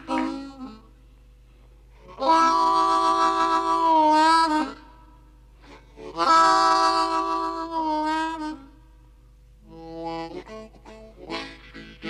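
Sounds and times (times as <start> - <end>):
blues harmonica playing: 0.0 - 1.0, 1.9 - 8.8, 9.6 - 12.0.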